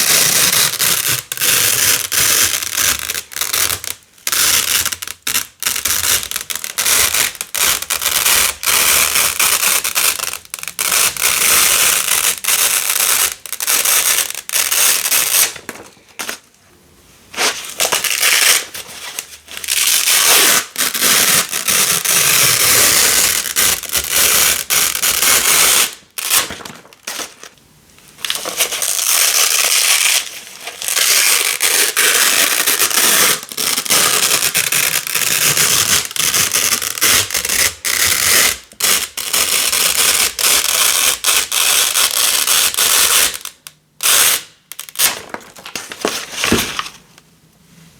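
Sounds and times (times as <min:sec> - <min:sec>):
velcro ripping apart: 0:00.0 - 0:16.4, 0:17.4 - 0:27.4, 0:28.2 - 0:46.9.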